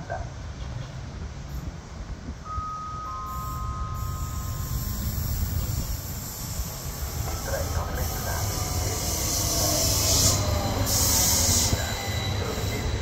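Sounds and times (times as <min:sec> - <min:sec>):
steady high tones: 0:02.4 - 0:13.0.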